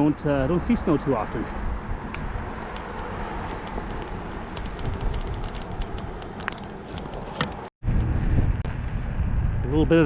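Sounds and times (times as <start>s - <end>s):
wind and tyre rumble: 0.0s - 10.0s.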